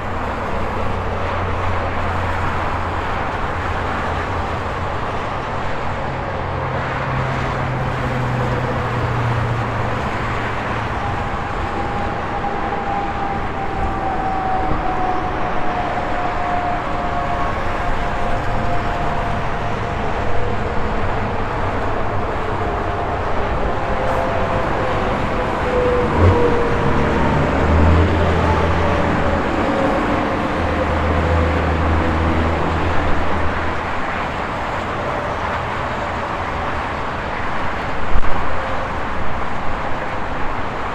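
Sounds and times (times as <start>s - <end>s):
heavy engines humming low: 0.0s - 40.9s
tyre noise of traffic: 0.0s - 40.9s
vehicles passing by: 0.0s - 40.9s.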